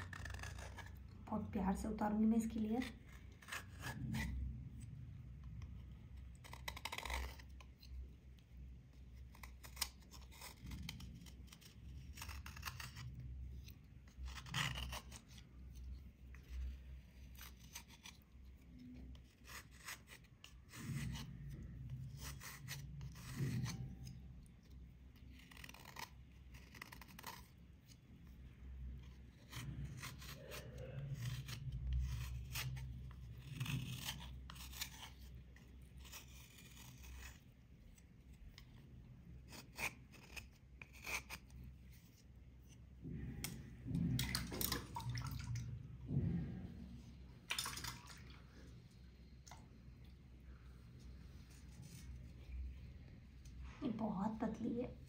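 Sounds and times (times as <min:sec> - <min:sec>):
blade scraping rubber sole: 0:00.0 - 0:01.5, 0:02.3 - 0:44.1, 0:50.5 - 0:53.1.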